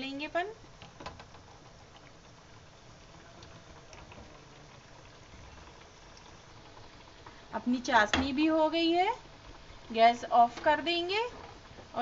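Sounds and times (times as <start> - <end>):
deep-frying sizzle with crackles: 0.0 - 12.0.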